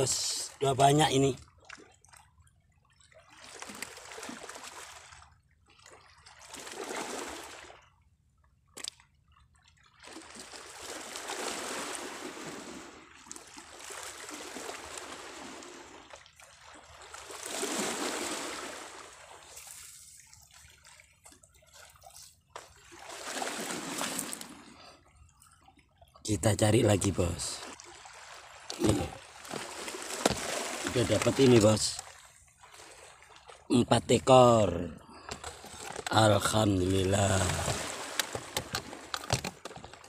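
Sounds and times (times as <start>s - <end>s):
waves lapping at shore: 3.2s - 7.9s, 9.9s - 25.1s, 26.6s - 40.0s.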